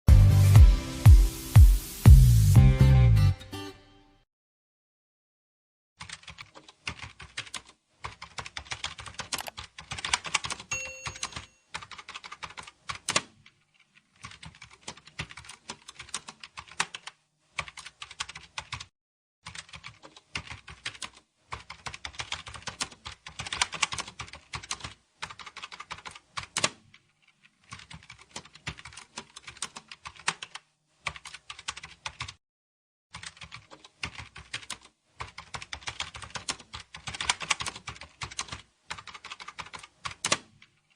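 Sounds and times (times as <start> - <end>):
keyboard typing: 6.0 - 32.4, 33.1 - 40.9.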